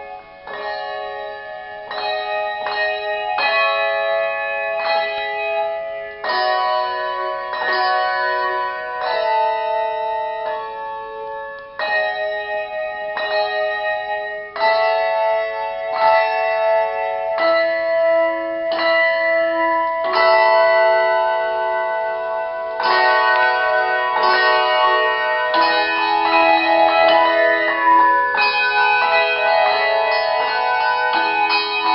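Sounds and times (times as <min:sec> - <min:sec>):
handbells ringing chords: 0:00.0 - 0:31.9.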